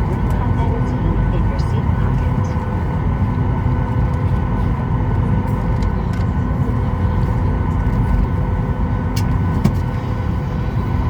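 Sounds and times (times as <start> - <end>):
airliner cabin rumble: 0.0 - 11.0
multi-tone machinery hum: 0.0 - 11.0.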